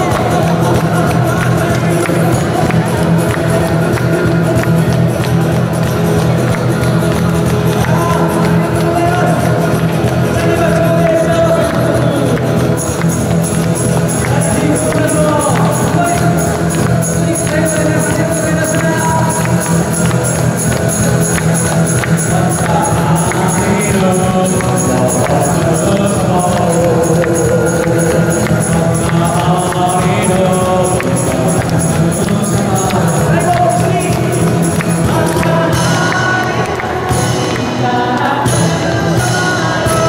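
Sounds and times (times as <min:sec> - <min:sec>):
acoustic guitar: 0:00.0 - 0:40.0.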